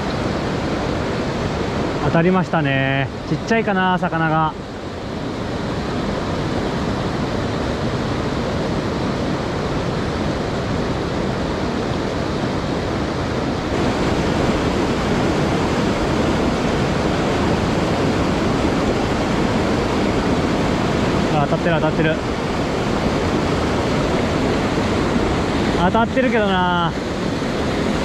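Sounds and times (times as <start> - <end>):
stream rushing over boulders: 0.0 - 28.0.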